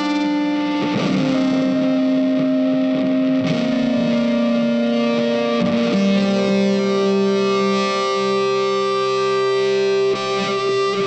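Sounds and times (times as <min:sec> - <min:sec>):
guitar playing held notes: 0:00.0 - 0:11.0.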